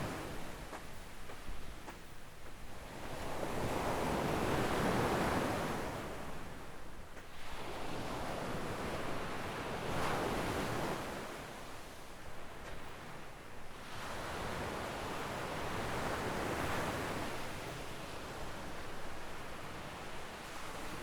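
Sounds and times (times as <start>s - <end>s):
gentle waves breaking on shore: 0.0s - 21.0s.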